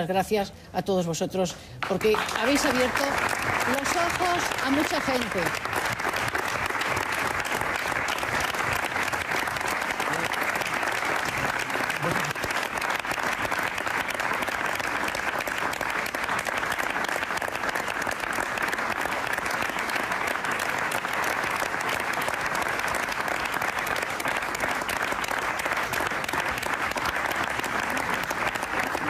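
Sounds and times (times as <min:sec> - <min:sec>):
crowd applauding: 0:01.8 - 0:29.0.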